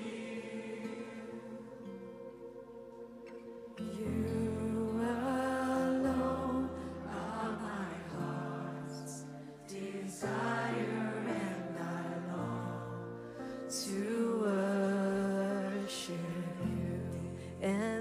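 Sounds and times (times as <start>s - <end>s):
voices singing long notes: 0.0s - 18.0s.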